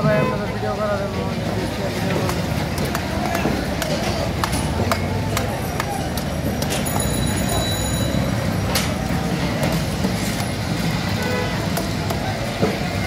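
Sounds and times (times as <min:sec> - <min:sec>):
traffic and people rumble: 0:00.0 - 0:13.0.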